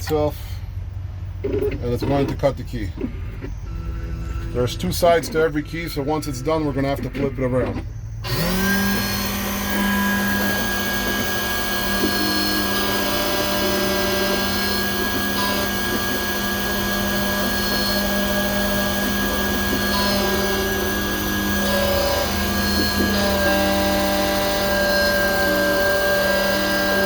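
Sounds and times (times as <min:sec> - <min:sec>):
key-cutting machine whining: 0:03.2 - 0:27.0.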